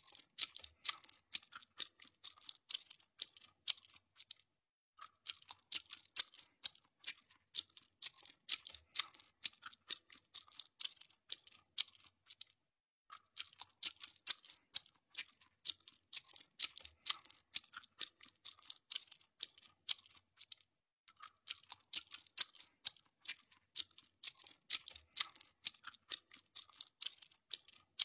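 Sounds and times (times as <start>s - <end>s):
orangutan chewing with crunching: 0.0s - 4.4s, 5.0s - 28.0s.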